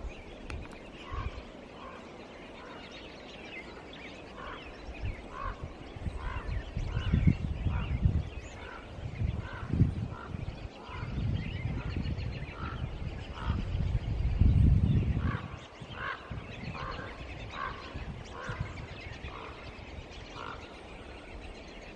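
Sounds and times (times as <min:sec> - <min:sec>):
wind rumbling on microphone: 0:00.0 - 0:21.9.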